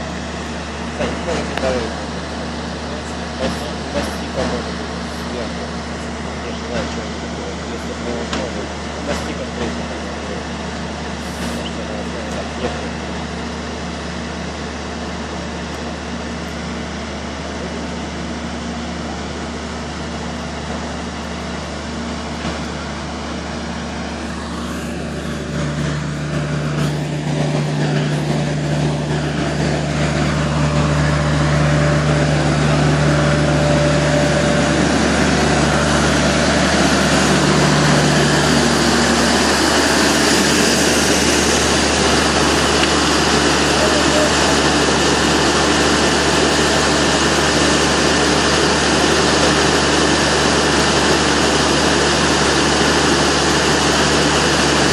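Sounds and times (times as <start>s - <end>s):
fire truck engine running: 0.0s - 54.9s.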